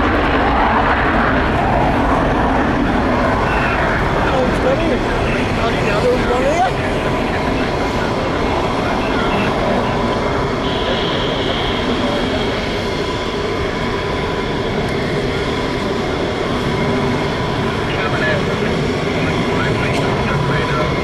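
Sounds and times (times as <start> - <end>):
high whine: 0.0 - 21.0
loud deep jet noise: 0.0 - 21.0.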